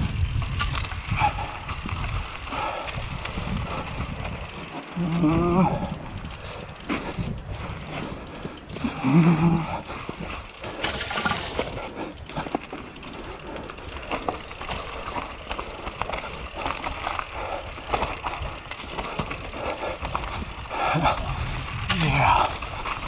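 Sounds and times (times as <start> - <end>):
bike rattling: 0.0 - 23.0
bike tyres crunching on dirt: 0.0 - 23.0.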